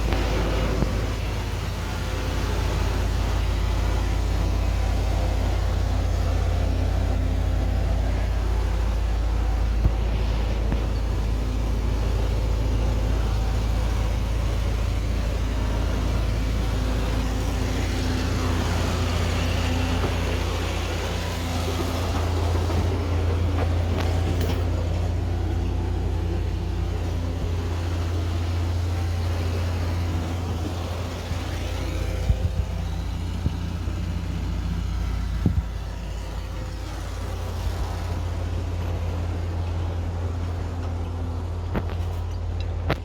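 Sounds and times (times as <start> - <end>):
deep hum: 0.0 - 43.0
vehicle engine running: 0.0 - 43.0.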